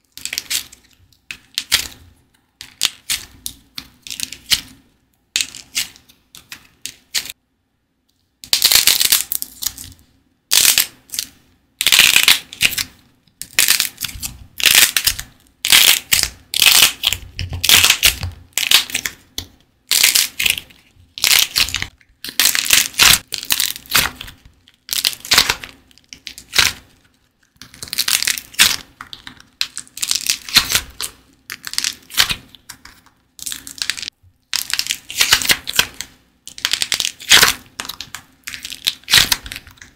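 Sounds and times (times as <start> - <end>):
clay crackling and crunching: 0.0 - 7.4, 8.4 - 39.9.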